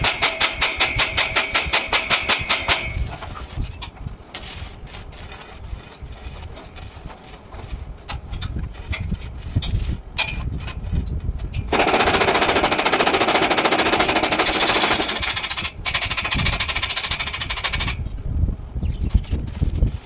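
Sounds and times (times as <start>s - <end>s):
welding arc crackling: 0.0s - 18.1s.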